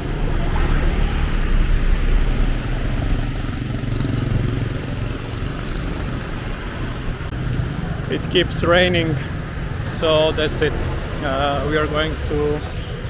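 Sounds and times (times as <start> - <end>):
engine humming: 0.0 - 13.0
street traffic: 0.0 - 13.0.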